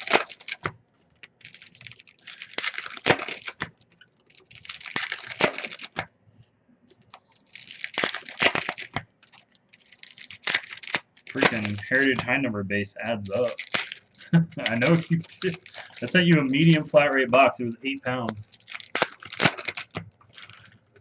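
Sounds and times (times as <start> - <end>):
cards clicking crinkling and tearing: 0.0 - 6.1, 6.9 - 12.4, 13.0 - 21.0.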